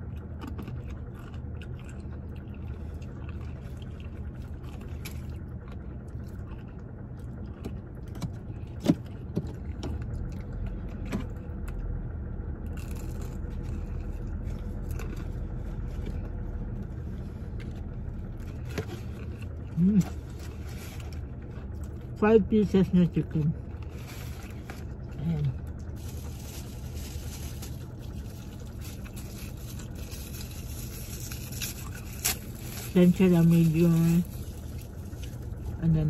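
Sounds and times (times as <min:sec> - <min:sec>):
crunchy chewing: 0:00.0 - 0:11.9, 0:12.6 - 0:22.2, 0:23.6 - 0:33.2, 0:34.2 - 0:35.8
steady low rumble: 0:00.0 - 0:36.0.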